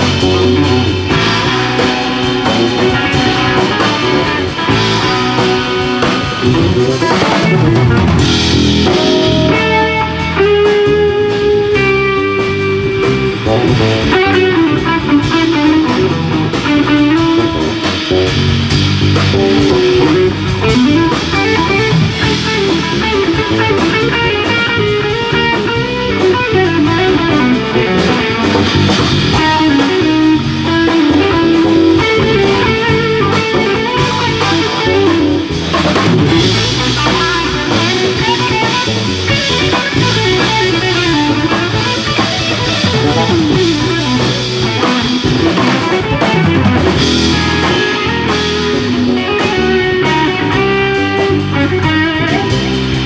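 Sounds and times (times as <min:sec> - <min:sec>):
bass guitar: 0:00.0 - 0:53.0
drum kit: 0:00.0 - 0:53.0
electric guitar: 0:00.0 - 0:53.0.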